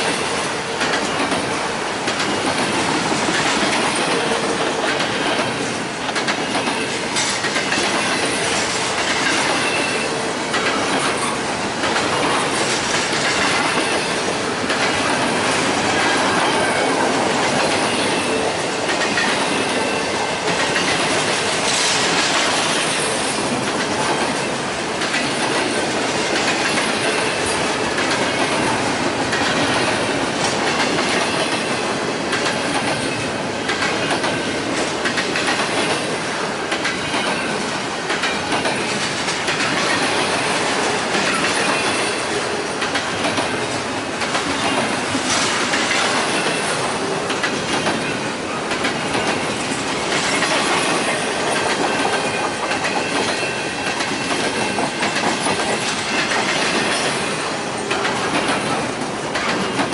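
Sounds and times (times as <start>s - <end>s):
train rolling past: 0.0s - 59.9s
train wheels clicking on rails: 0.0s - 59.9s.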